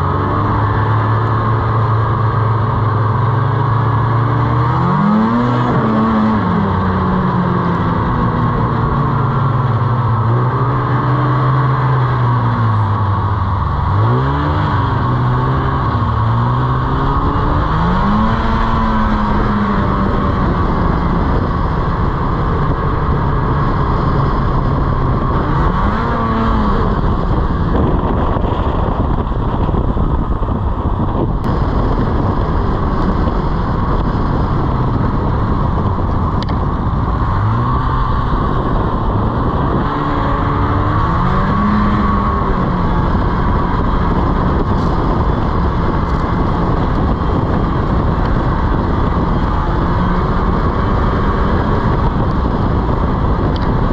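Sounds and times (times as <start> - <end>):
snowmobile engine revving: 0.0 - 30.0, 31.4 - 53.9
steady rushing noise: 0.0 - 53.9.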